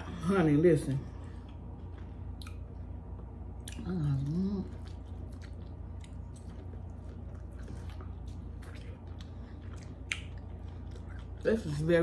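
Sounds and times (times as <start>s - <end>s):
steady low hum: 0.0s - 12.0s
person chewing food: 1.2s - 12.0s.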